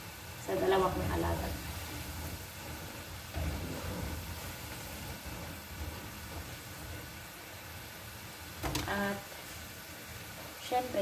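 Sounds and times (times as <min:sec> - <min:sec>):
fries sizzling in oil: 0:00.0 - 0:11.0.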